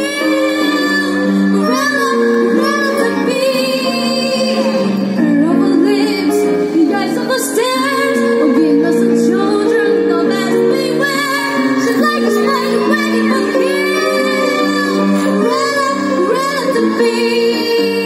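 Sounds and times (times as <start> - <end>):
woman singing into microphone: 0.0 - 18.0.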